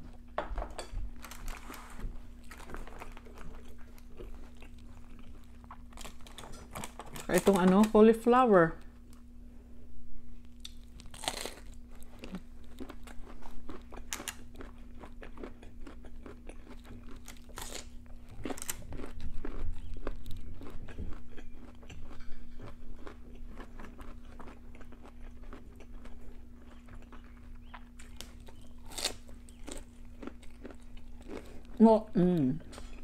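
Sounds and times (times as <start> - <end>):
crunching raw cauliflower: 1.2 - 7.6, 10.4 - 33.0.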